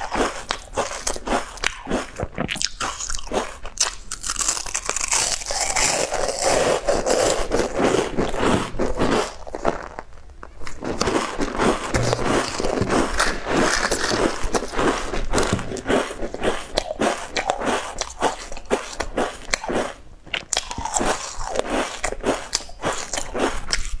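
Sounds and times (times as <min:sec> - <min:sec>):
chewing crunchy food: 0:00.0 - 0:24.0.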